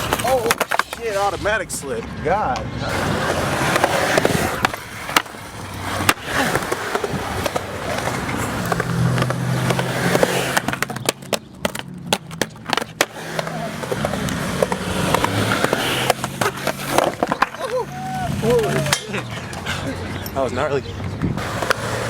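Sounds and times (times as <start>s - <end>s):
skateboard clacks: 0.0s - 1.2s, 2.0s - 19.9s, 21.0s - 22.0s
skateboard wheels rolling on concrete: 0.0s - 22.0s.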